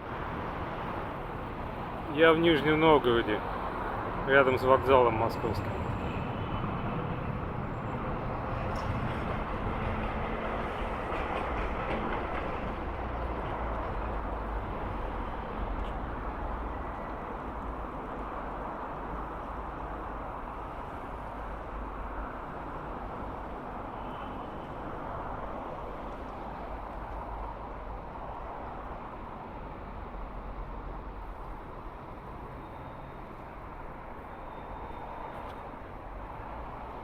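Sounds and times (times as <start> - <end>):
passing vehicles rumble: 0.0 - 37.0.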